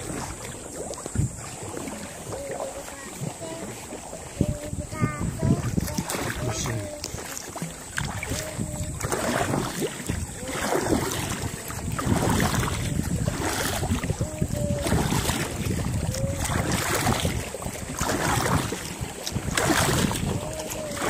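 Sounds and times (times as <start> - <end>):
paddle strokes splashing water: 0.0 - 21.0
wind buffeting microphone: 0.0 - 21.0.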